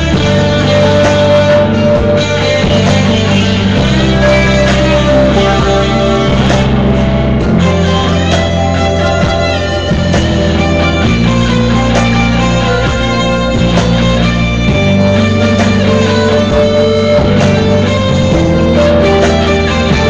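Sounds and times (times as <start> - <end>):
rock music with guitar: 0.0 - 20.0.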